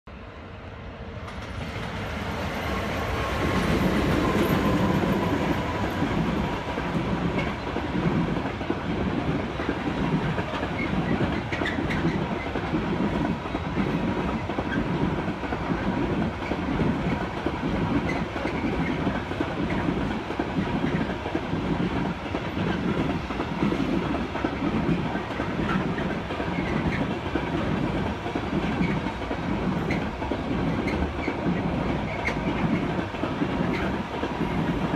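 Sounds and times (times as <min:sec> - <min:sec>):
train wheels clattering over rail joints: 0:03.0 - 0:34.9.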